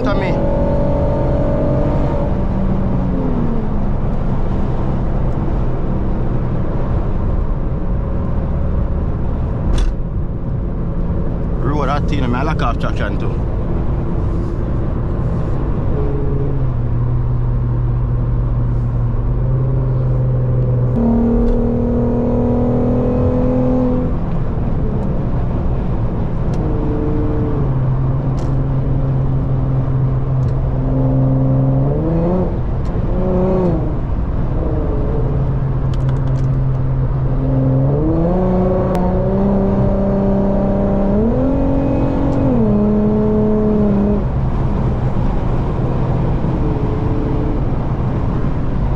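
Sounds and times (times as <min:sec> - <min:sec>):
car engine and exhaust: 0:00.0 - 0:48.9
road noise: 0:00.0 - 0:48.9.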